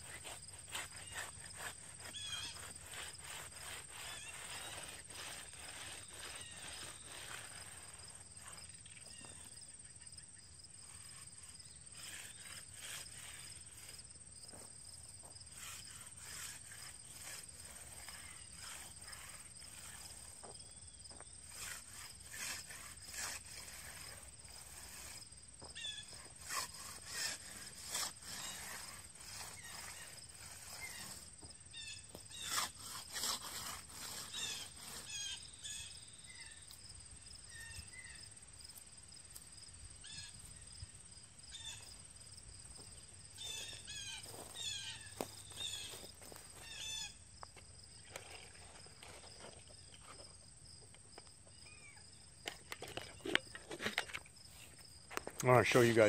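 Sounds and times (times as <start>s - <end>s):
concrete edger scraping: 0.0s - 9.6s, 10.7s - 35.9s, 42.7s - 51.5s, 52.2s - 56.0s
insects droning: 0.0s - 56.0s.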